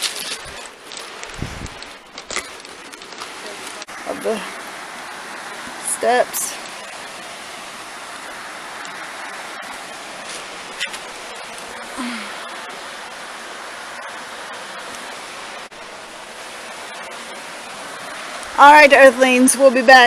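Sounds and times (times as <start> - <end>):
river rapids roaring: 0.0 - 20.0.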